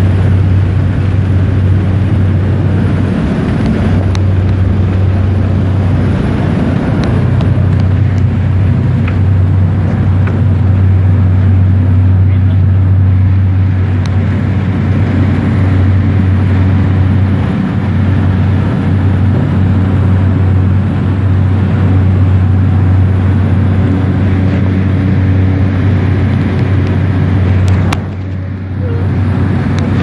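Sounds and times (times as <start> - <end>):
airflow noise: 0.0 - 30.0
light aircraft engine drone: 0.0 - 30.0.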